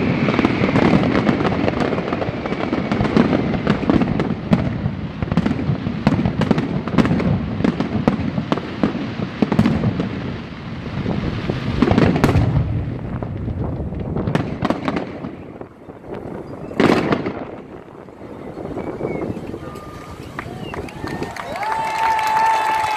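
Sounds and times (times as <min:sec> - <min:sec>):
fireworks bursting: 0:00.0 - 0:22.9.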